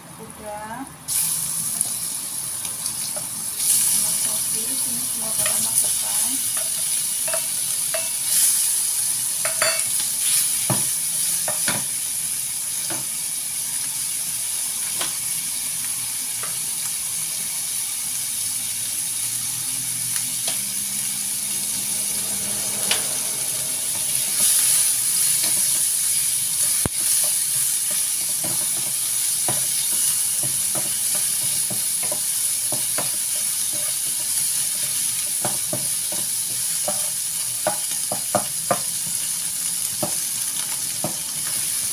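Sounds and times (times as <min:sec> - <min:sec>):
food sizzling in oil: 0:01.0 - 0:41.9.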